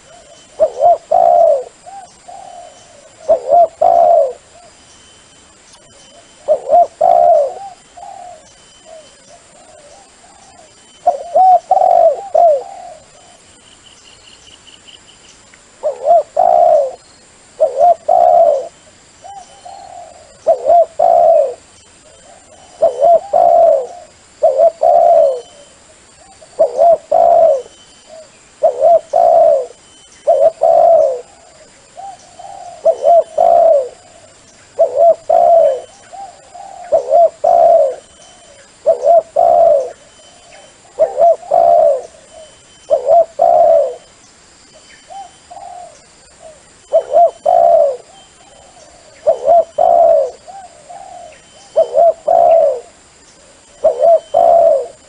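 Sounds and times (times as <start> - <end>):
dove cooing: 0.0 - 4.8, 5.9 - 13.5, 15.8 - 44.1, 45.0 - 55.0.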